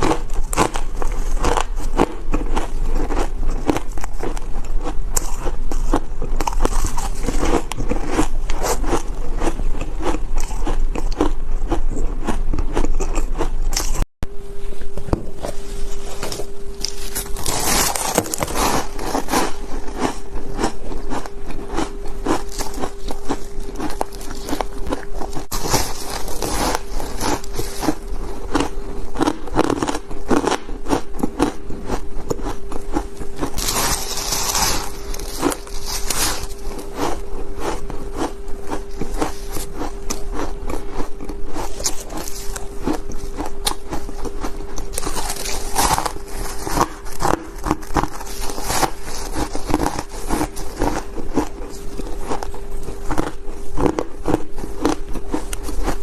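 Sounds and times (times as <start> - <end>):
ice being chewed: 0.0 - 14.0, 16.0 - 56.0.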